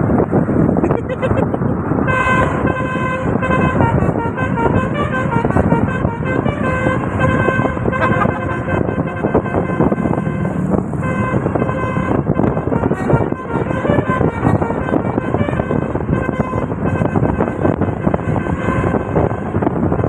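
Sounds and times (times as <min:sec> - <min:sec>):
constant low rumble: 0:00.0 - 0:20.0
bus horn playing a melody: 0:00.8 - 0:20.0.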